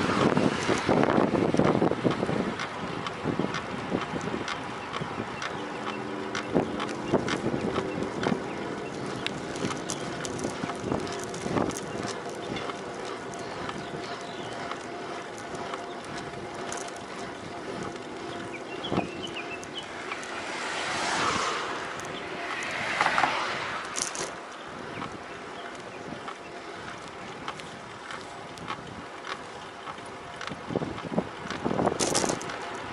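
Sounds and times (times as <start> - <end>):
wind rushing over microphone: 0.0 - 29.2, 30.1 - 32.9
bicycle creaking ticks: 0.0 - 32.9.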